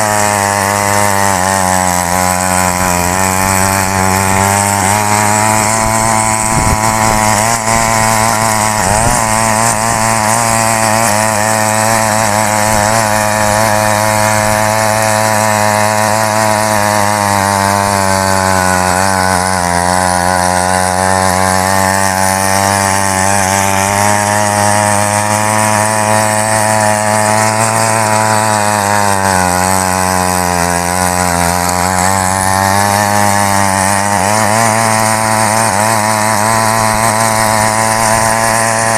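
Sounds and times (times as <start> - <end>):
small petrol engine running: 0.0 - 38.9
tines churning soil: 0.0 - 38.9.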